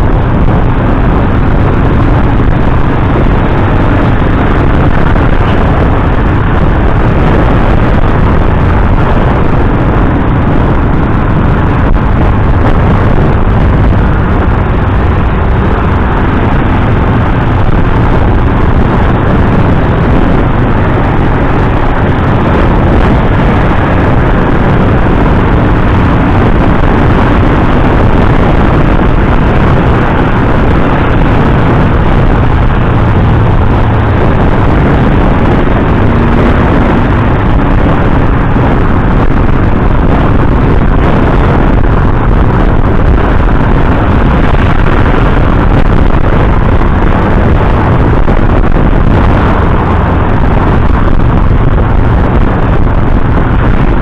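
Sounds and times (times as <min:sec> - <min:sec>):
motorcycle engine and wind rush: 0:00.0 - 0:54.0.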